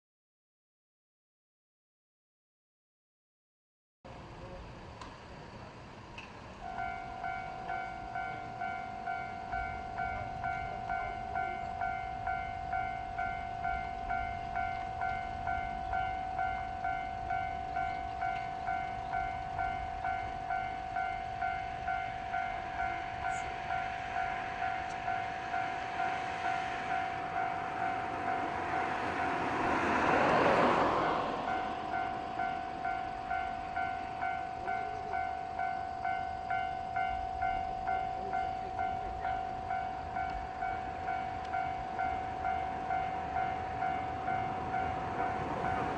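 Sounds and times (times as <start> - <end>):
train passing: 4.1 - 45.9
level crossing alarm ringing: 6.6 - 45.9.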